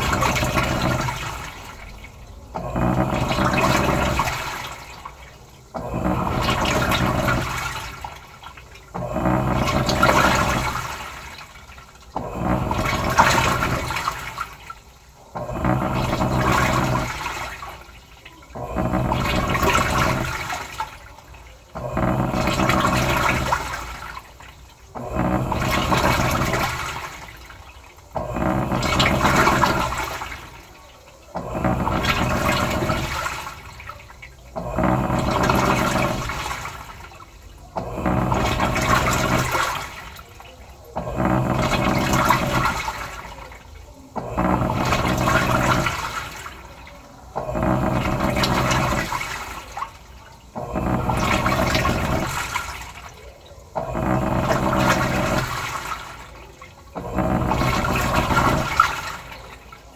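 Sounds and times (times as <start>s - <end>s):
washing machine motor humming: 0.0s - 59.9s
water swishing: 0.0s - 59.9s.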